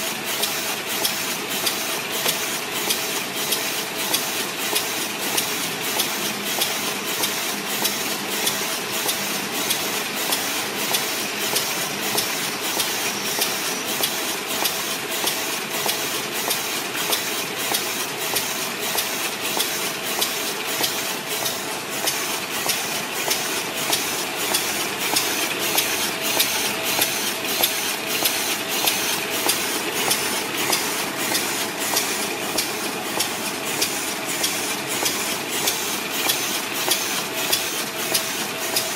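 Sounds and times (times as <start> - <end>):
machine hum and hiss: 0.0 - 38.9
machine mechanism clacking: 0.3 - 38.9.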